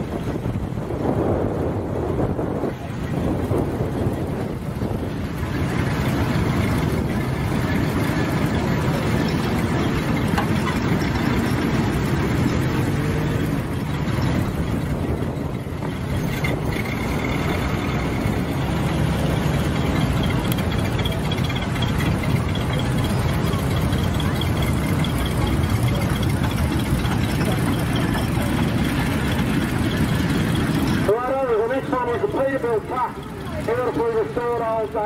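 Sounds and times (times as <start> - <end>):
heavy truck engines running: 0.0 - 35.0.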